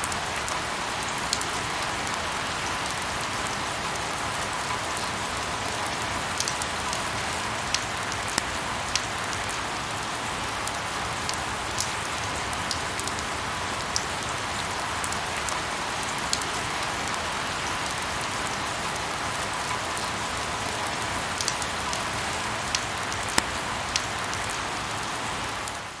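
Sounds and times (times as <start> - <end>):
light rain hiss: 0.0 - 26.0
raindrops ticking on a surface: 0.0 - 26.0.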